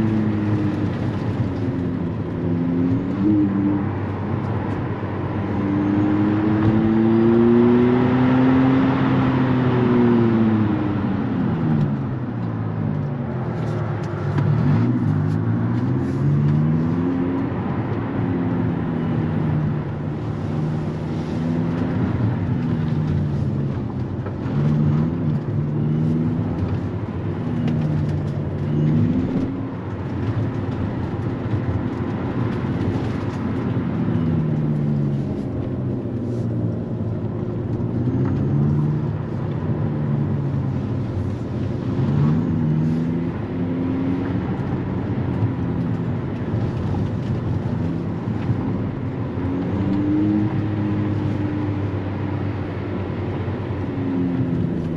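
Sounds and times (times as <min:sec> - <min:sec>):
road and tyre noise: 0:00.0 - 0:54.9.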